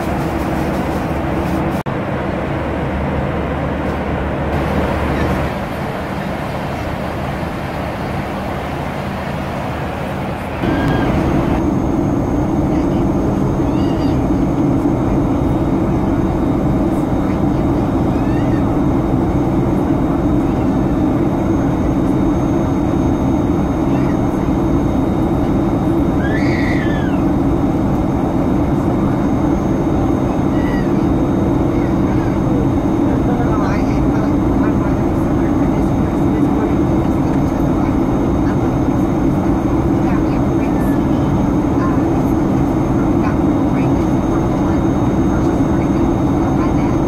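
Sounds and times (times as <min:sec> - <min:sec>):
jet engine cabin roar: 0:00.0 - 0:47.0
faint voices: 0:04.6 - 0:07.6, 0:09.4 - 0:11.6, 0:12.5 - 0:47.0.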